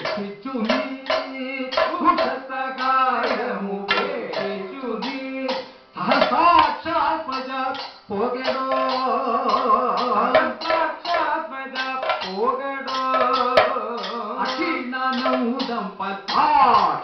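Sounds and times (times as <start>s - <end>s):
drum strokes: 0.0s - 17.0s
men singing: 0.0s - 17.0s.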